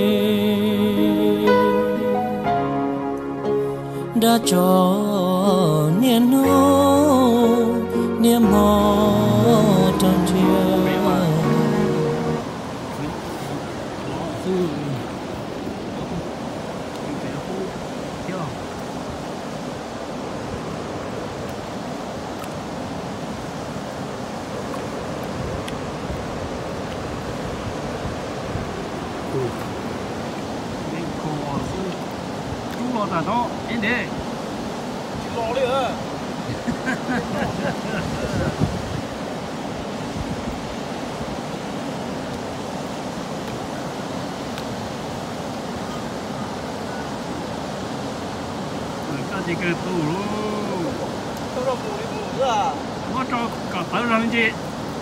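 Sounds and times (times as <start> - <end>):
water rushing over spillway: 5.2 - 55.0.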